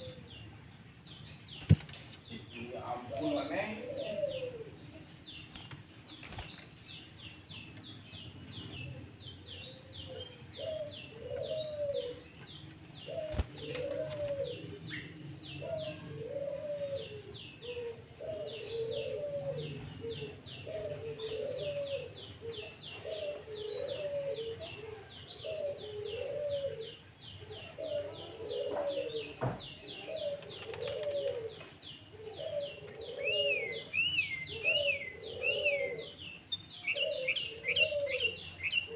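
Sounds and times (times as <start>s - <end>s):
low cooing bird: 0.0s - 0.6s, 1.2s - 5.7s, 7.2s - 38.9s.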